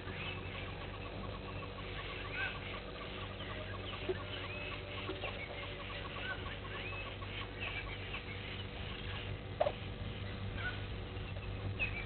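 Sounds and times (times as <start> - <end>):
faint bird chirps: 0.0 - 12.0
steady low hum: 0.0 - 12.0.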